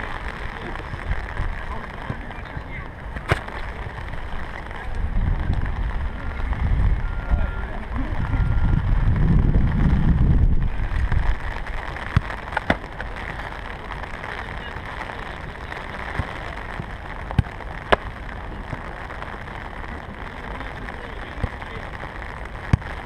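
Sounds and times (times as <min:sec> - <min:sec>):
rain hissing: 0:00.0 - 0:23.0
wind rumbling on microphone: 0:00.0 - 0:23.0.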